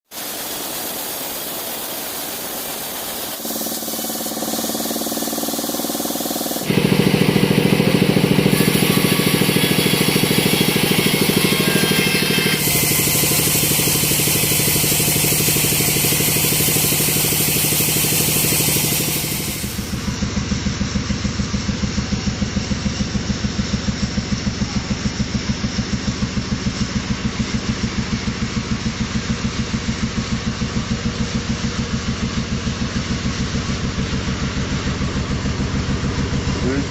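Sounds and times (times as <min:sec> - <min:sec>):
sawmill machinery running: 0:00.1 - 0:36.9
engine idling: 0:00.6 - 0:36.9.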